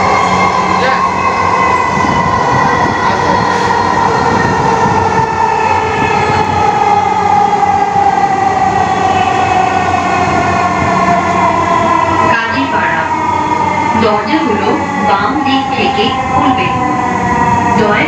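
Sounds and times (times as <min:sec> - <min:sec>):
electric train rumble and whine: 0:00.0 - 0:18.0.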